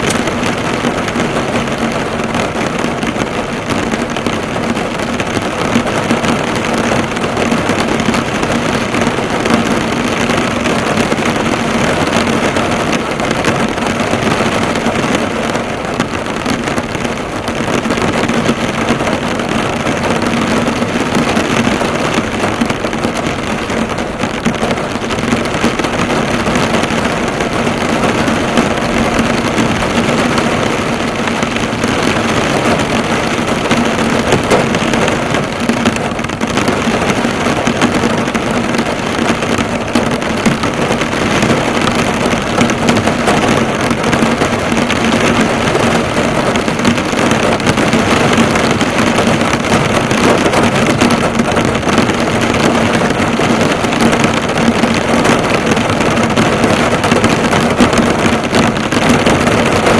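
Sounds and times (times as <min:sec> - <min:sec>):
heavy rain drumming on a car: 0:00.0 - 0:59.9.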